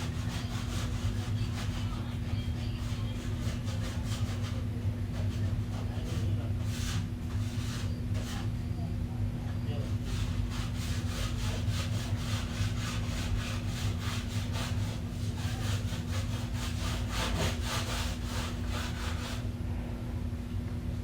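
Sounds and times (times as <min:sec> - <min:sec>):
rhythmic rubbing strokes: 0:00.0 - 0:08.5, 0:09.9 - 0:19.5
steady low hum: 0:00.0 - 0:21.0.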